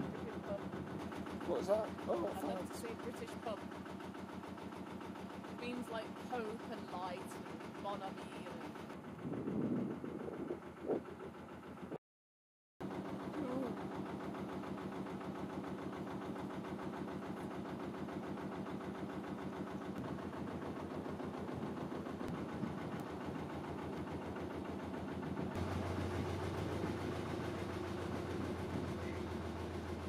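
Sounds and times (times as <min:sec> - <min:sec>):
boat diesel engine running: 0:00.0 - 0:12.0, 0:12.8 - 0:30.0.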